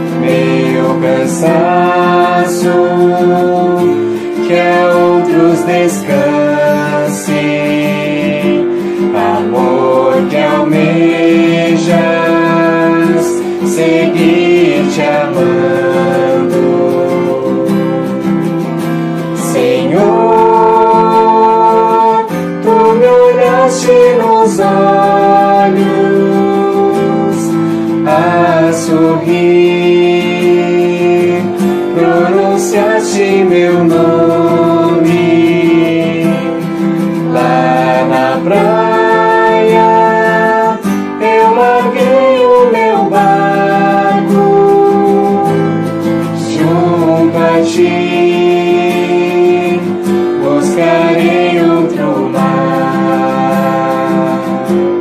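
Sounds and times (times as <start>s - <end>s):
acoustic guitar strumming: 0.0s - 55.0s
person singing a hymn: 0.0s - 55.0s.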